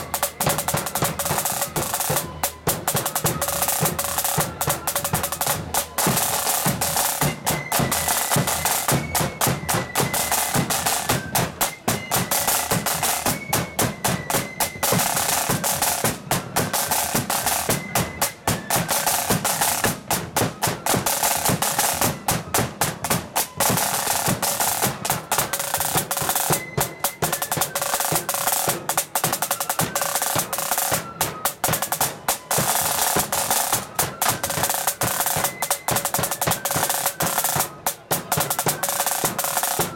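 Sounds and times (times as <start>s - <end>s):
flutes playing a melody: 0.0s - 39.9s
side drums playing rolls: 0.0s - 39.9s.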